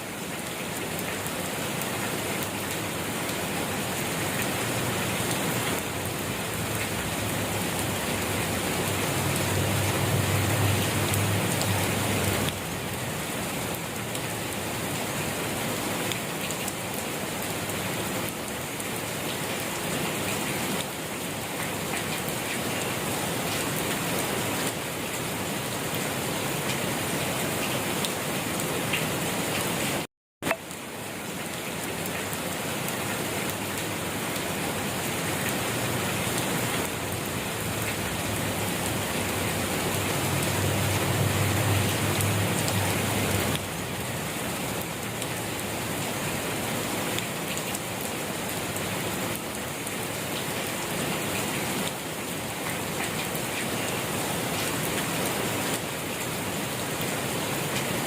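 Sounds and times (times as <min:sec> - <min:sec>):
rain pattering on surfaces: 0:00.0 - 0:58.0.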